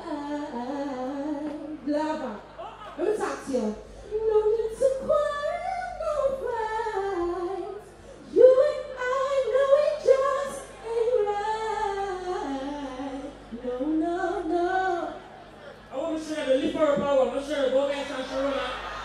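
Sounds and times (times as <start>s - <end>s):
woman singing into a microphone: 0.0s - 15.2s.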